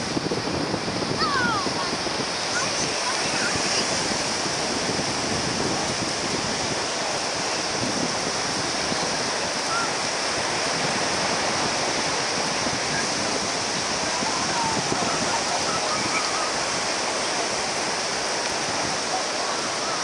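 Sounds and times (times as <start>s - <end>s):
surf rushing: 0.0s - 20.0s
wind buffeting microphone: 0.0s - 20.0s.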